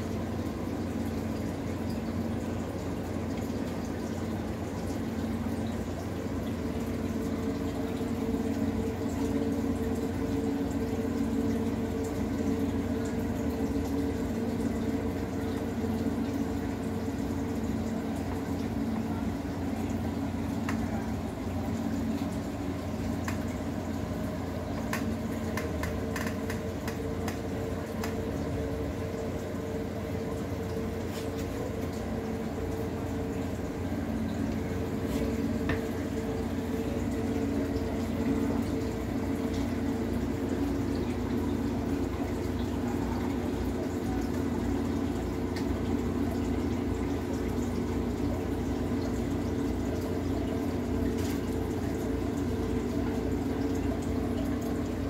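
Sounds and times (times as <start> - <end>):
aquarium water bubbling: 0.0 - 55.0.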